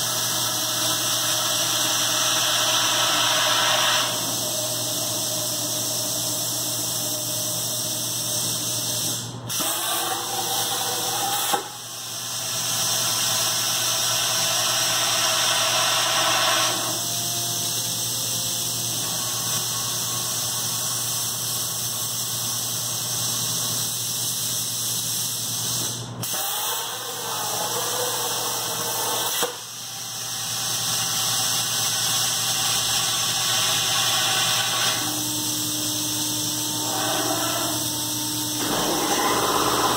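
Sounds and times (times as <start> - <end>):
plasma cutter arc hissing: 0.0 - 39.9.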